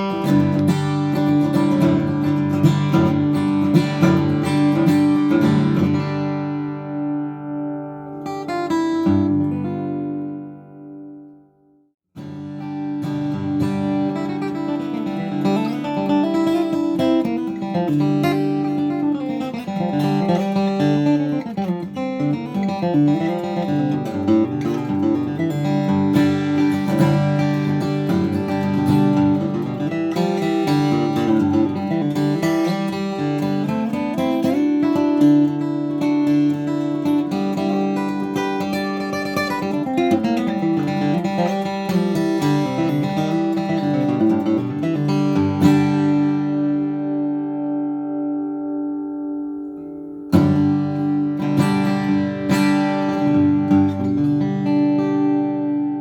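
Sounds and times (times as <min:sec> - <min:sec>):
acoustic guitar picking and strumming: 0:00.0 - 0:11.4, 0:12.2 - 0:56.0.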